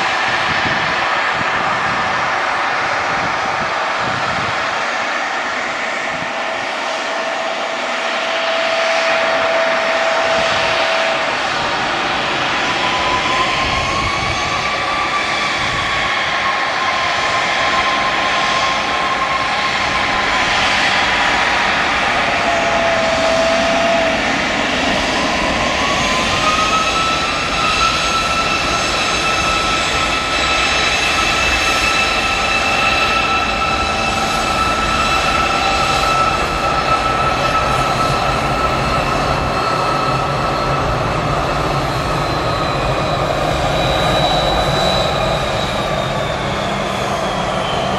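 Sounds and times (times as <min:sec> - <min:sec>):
jet engines whining while taxiing: 0:00.0 - 0:47.9.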